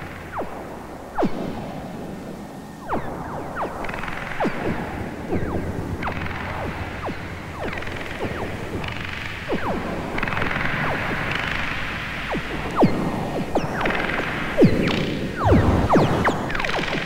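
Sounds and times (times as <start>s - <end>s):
hissing noise band: 0.0s - 17.0s
low hum: 0.0s - 17.0s
electronic downward pitch swoops: 2.8s - 17.0s.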